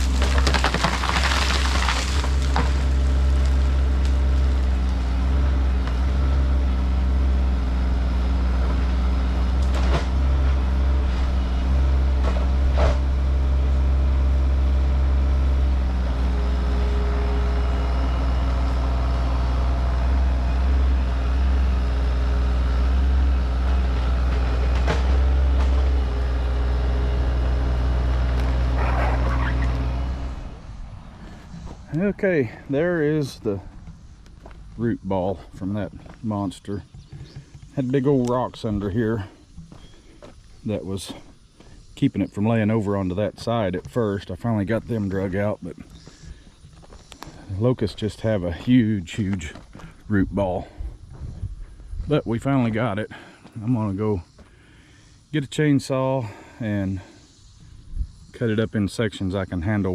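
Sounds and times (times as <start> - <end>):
mini excavator engine running: 0.0 - 55.2.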